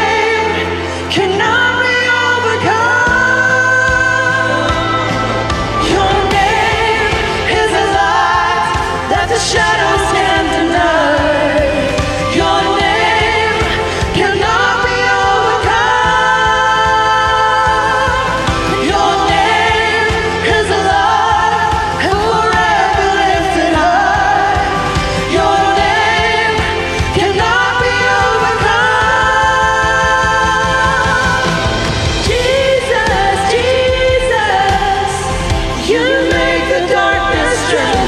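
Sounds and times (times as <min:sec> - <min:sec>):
band accompaniment: 0:00.0 - 0:38.0
women singing worship song: 0:00.0 - 0:38.0.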